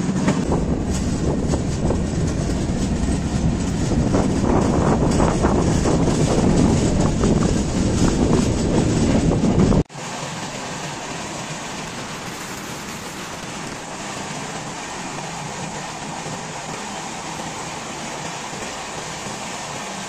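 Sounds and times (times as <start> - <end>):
train rushing noise from inside: 0.0 - 20.0.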